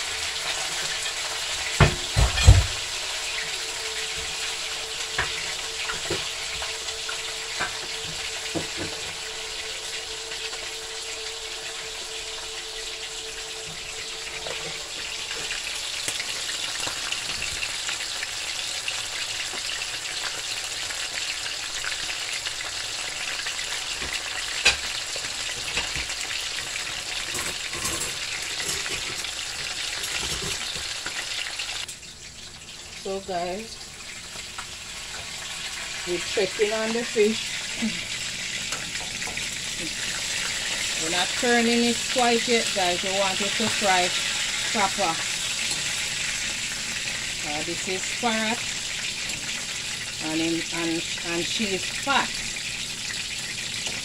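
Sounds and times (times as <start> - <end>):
fish sizzling in hot oil: 0.0 - 54.0.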